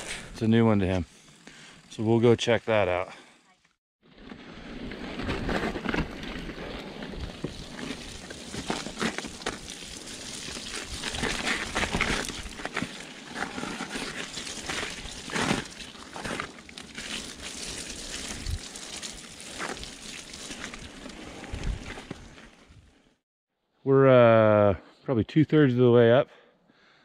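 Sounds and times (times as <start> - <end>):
bike tyres on dirt and snow: 0.0 - 23.2.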